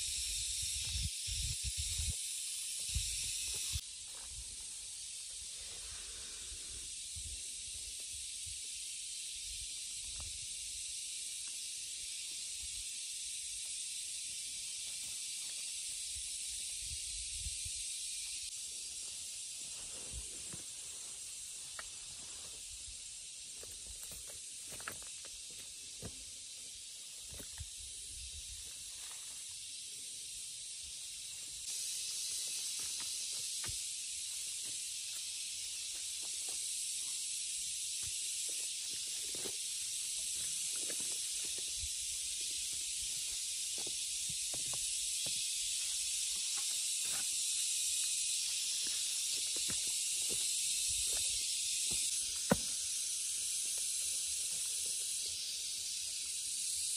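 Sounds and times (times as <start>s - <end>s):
high-pitched hiss: 0.0s - 56.9s.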